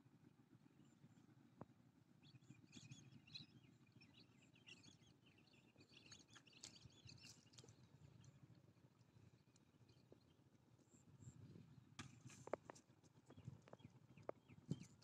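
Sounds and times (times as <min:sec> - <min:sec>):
faint birds chirping: 0:02.1 - 0:15.0.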